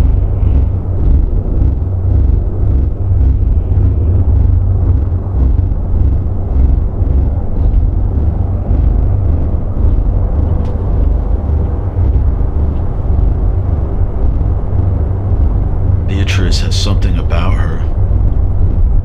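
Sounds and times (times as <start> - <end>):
deep rumbling drone: 0.0 - 19.0.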